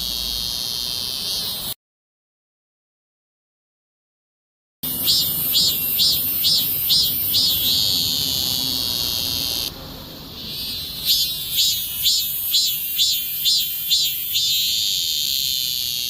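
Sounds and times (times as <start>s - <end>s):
cicada buzzing: 0.0s - 1.8s, 4.8s - 16.0s.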